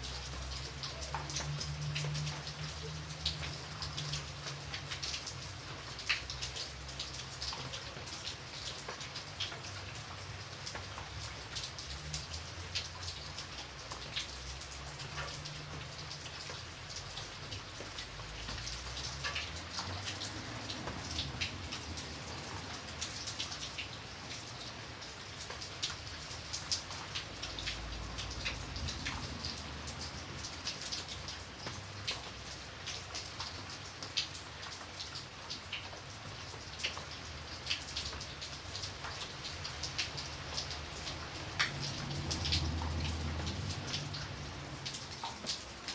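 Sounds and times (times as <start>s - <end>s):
raindrops ticking on hard surface: 0.0s - 45.9s.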